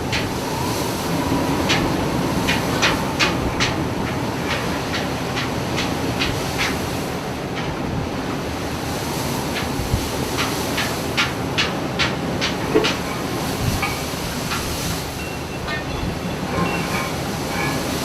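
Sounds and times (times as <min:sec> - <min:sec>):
heavy ship rumble: 0:00.0 - 0:18.0.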